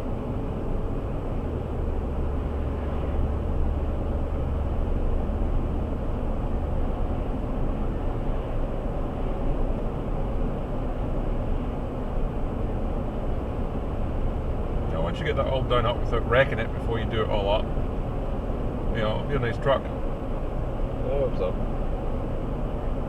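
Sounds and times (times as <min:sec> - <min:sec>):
vehicle engine drone: 0:00.0 - 0:23.0.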